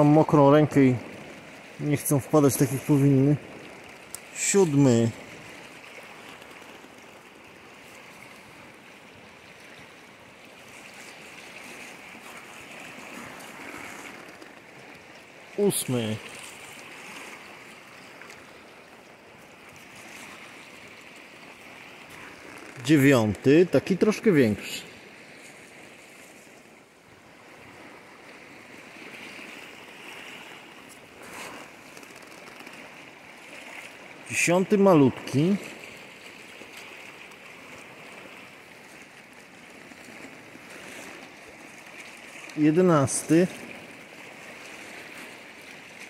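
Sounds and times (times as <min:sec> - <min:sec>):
rushing water: 0:00.0 - 0:46.0.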